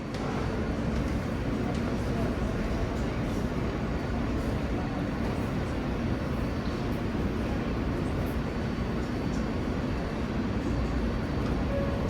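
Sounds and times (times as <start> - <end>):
subway train rumble and hum: 0.0 - 12.0.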